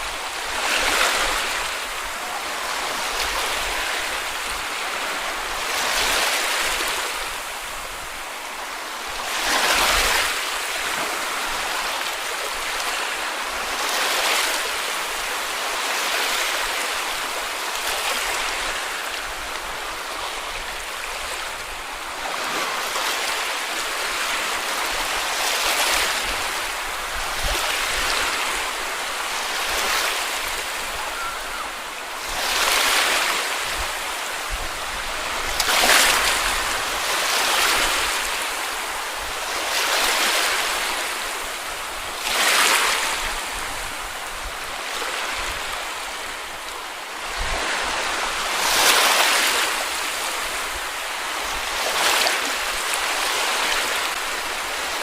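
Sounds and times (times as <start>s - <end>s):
hiss of surf: 0.0s - 55.0s
small waves breaking on beach: 0.0s - 55.0s.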